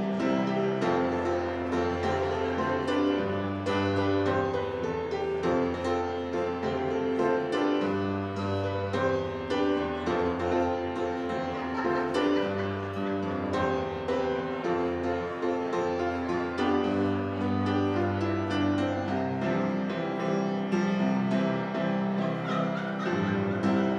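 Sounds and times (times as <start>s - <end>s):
piano chords: 0.0s - 23.9s.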